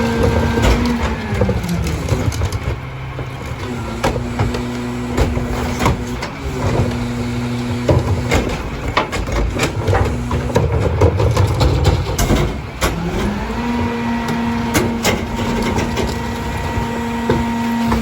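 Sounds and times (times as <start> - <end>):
clanks and knocks: 0.0 - 18.0
truck diesel engine running: 0.0 - 18.0.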